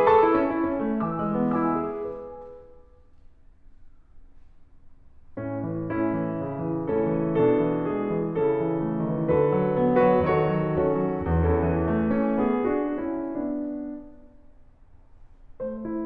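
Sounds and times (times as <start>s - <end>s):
piano music: 0.0s - 3.2s, 5.2s - 14.6s, 15.4s - 16.0s.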